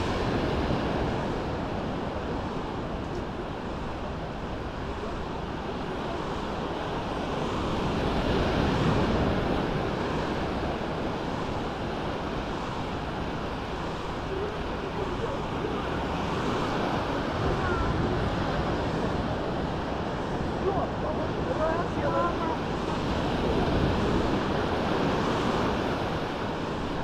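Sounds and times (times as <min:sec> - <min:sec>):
waves washing up a sandy shore: 0:00.0 - 0:27.0
wind rumbling on microphone: 0:00.0 - 0:27.0.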